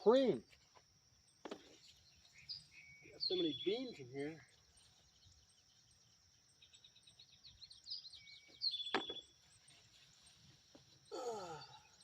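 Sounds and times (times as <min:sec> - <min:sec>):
outdoor ambience hiss: 0:00.0 - 0:12.0
songbird chirping and trilling: 0:00.0 - 0:12.0.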